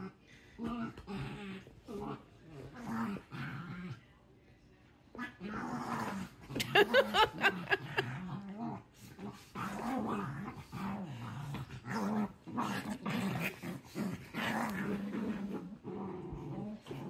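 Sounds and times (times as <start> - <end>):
dog growling: 0.0 - 4.0, 5.1 - 17.0.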